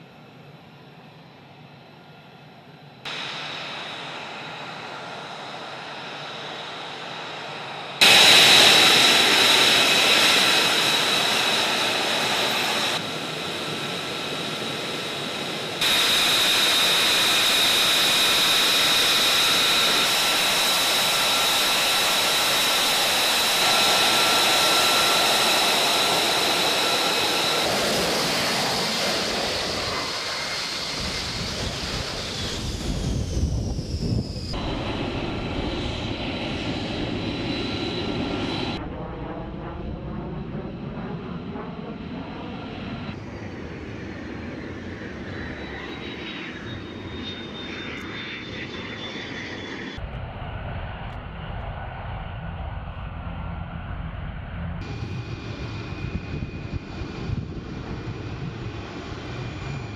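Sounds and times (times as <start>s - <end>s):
jet engine whining: 0.0s - 59.9s.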